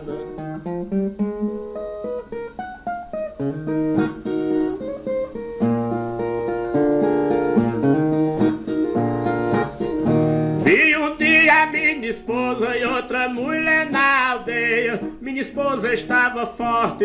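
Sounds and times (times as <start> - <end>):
folk guitar playing: 0.0 - 17.0.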